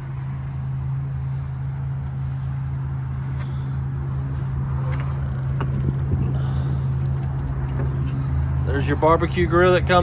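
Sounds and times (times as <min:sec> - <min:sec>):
motorhome engine idling: 0:00.0 - 0:10.0.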